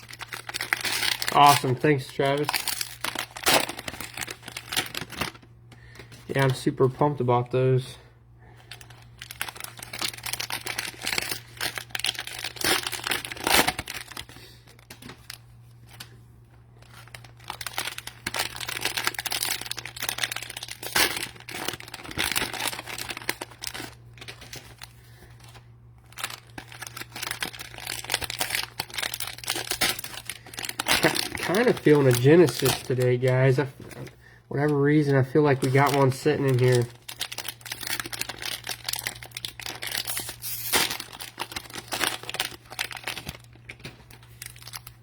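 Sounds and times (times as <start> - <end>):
cellophane wrappers crinkling: 0.0 - 45.0.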